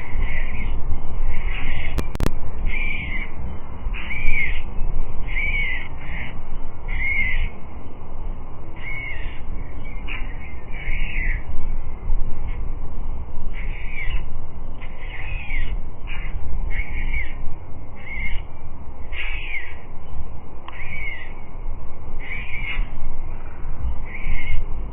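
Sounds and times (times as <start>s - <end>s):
bird calling: 0.0s - 8.0s, 8.7s - 21.6s, 22.2s - 24.8s
low wind rumble: 0.0s - 24.9s.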